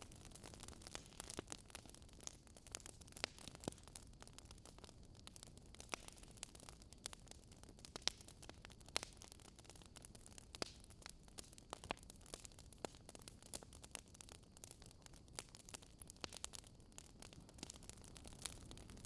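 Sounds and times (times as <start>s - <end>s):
soft steady hiss: 0.0s - 19.0s
wood fire crackling: 0.0s - 19.0s.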